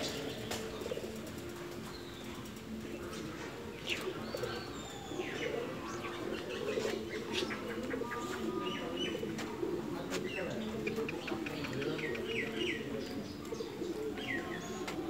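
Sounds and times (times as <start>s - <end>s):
birds cooing: 0.0s - 15.0s.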